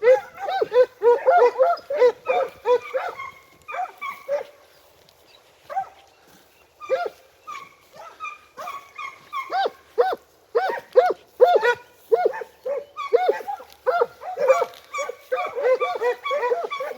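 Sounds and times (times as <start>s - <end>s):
hounds baying and yelping: 0.0s - 16.9s.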